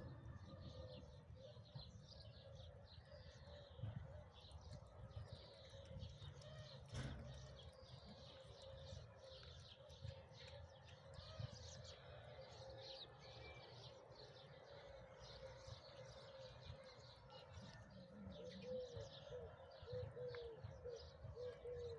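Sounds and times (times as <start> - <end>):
low cooing calls: 0.0 - 21.9
small birds chirping: 0.0 - 21.9.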